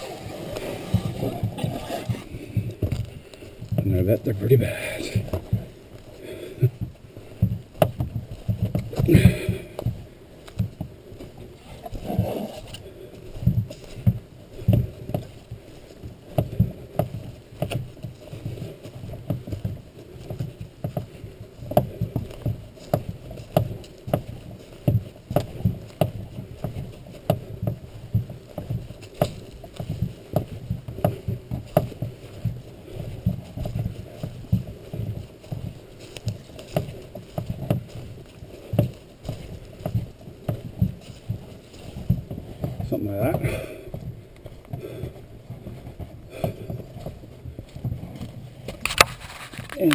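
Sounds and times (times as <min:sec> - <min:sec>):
footsteps thumping on trail: 0:00.0 - 0:49.9
wooden canoe frame knocking: 0:00.1 - 0:49.2.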